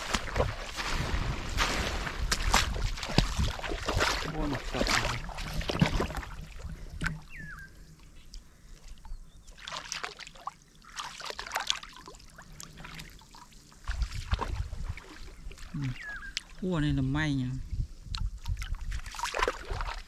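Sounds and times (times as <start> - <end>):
pond water splashing: 0.0 - 16.9, 18.2 - 20.0.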